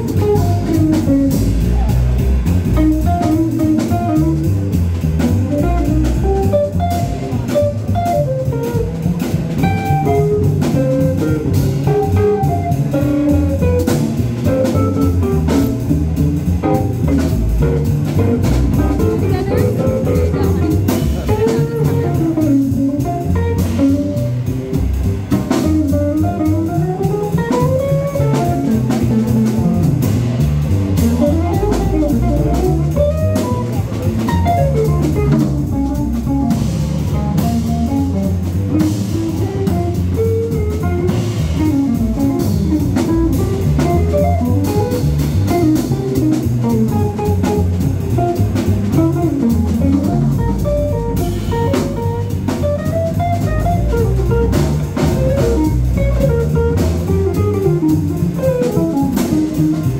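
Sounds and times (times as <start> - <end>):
drum kit with cymbals: 0.0 - 59.9
upright bass: 0.0 - 59.9.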